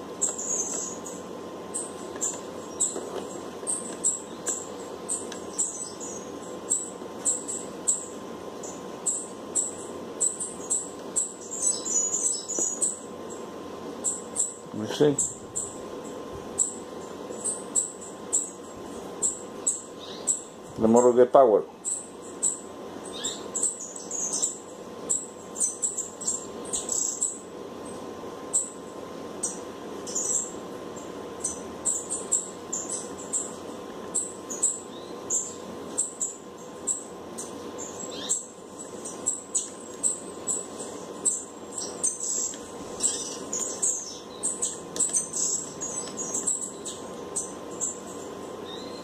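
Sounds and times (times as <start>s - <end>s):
small birds chirping: 0.0s - 49.0s
steady low hum: 0.0s - 49.0s.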